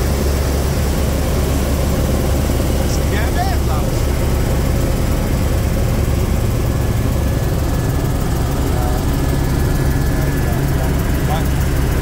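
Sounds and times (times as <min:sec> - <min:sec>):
helicopter rotor and turbine drone: 0:00.0 - 0:12.0.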